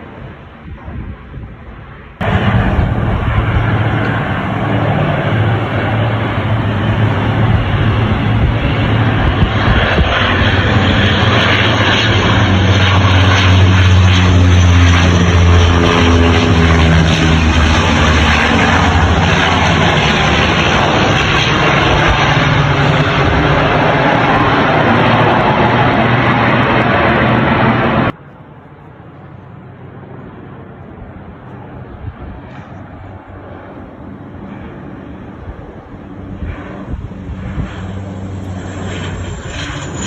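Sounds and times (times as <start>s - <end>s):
airplane engine droning: 0.0s - 40.0s.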